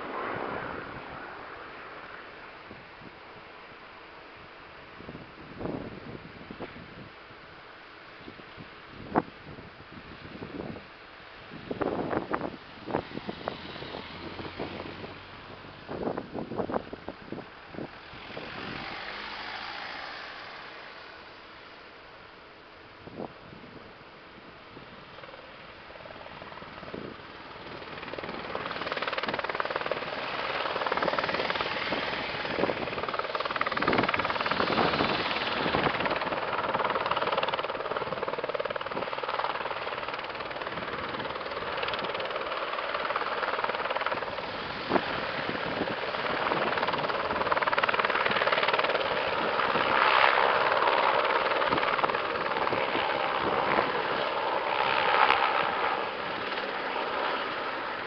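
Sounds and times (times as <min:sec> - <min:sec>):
helicopter rotor chop and engine: 0:00.0 - 0:58.0.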